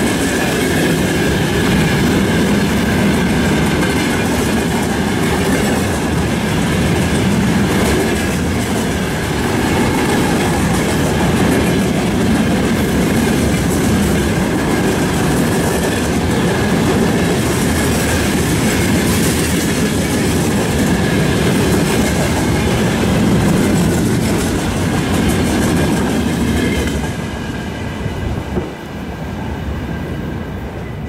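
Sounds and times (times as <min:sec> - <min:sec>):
clickety-clack over rail joints: 0:00.0 - 0:29.0
freight train wheels on rails: 0:00.0 - 0:31.0.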